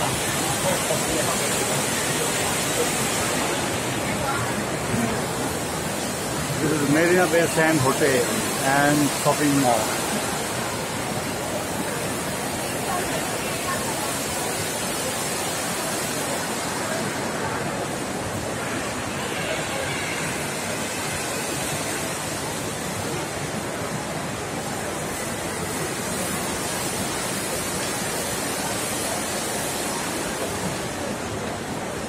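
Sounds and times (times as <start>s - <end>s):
constant rushing hiss: 0.0s - 32.0s
faint shoppers' voices: 0.0s - 32.0s.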